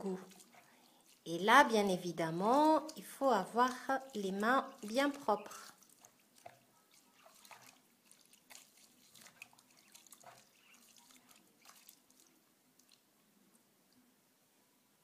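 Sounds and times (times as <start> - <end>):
hand squelching carrots in water: 0.0 - 13.1.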